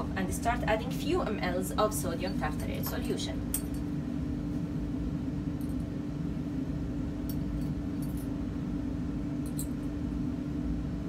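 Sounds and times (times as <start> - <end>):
equipment humming: 0.0 - 11.0.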